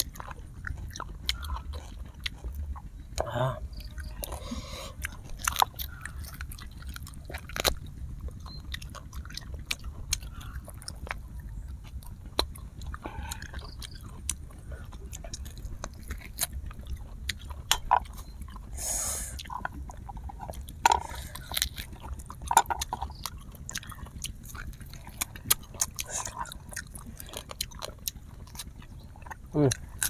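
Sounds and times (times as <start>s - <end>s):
close chewing and biting: 0.0s - 30.0s
low steady rumble: 0.0s - 30.0s.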